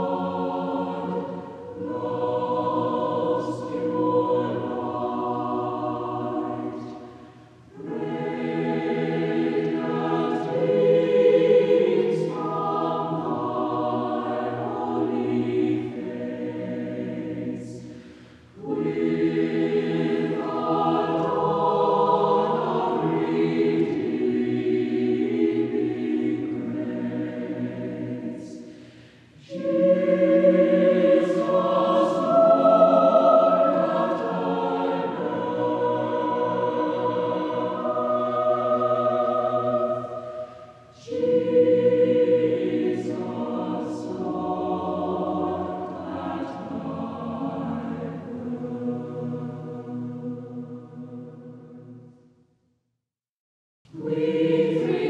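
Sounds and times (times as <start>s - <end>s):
choir singing: 0.0s - 52.2s, 53.9s - 55.0s.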